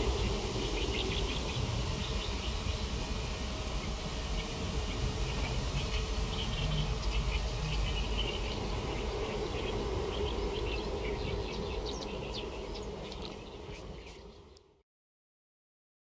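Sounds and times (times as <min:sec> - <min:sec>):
steady low rumble: 0:00.0 - 0:14.6
birds and insects chirping: 0:00.0 - 0:14.8.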